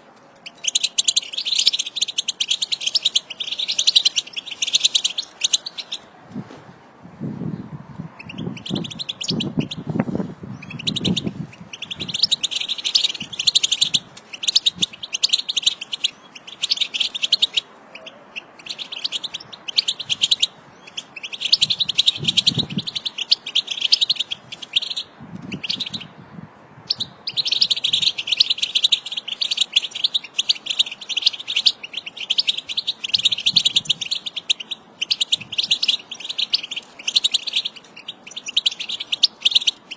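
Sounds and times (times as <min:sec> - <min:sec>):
finches twittering: 0:00.5 - 0:06.0, 0:08.2 - 0:10.0, 0:10.6 - 0:26.1, 0:26.9 - 0:39.9.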